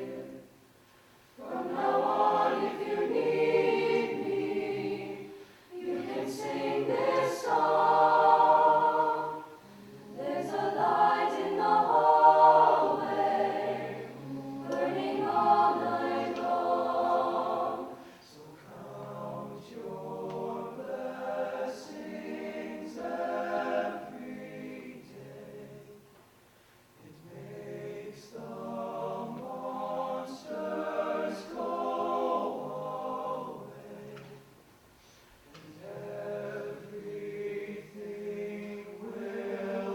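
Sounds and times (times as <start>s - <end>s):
a cappella group singing: 0.0s - 0.6s, 1.4s - 26.1s, 27.0s - 39.9s.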